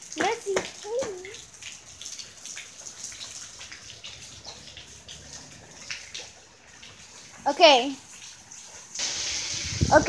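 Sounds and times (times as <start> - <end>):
rain on pavement: 0.0 - 10.0.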